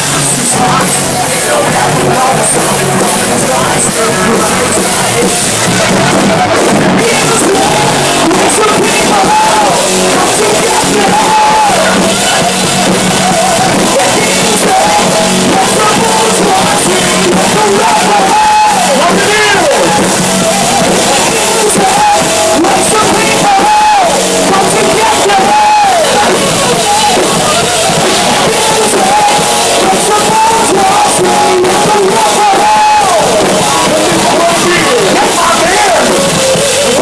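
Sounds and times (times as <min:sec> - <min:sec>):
bass guitar: 0:00.0 - 0:37.0
drum kit: 0:00.0 - 0:37.0
electric guitars: 0:00.0 - 0:37.0
man singing and yelling: 0:00.0 - 0:37.0.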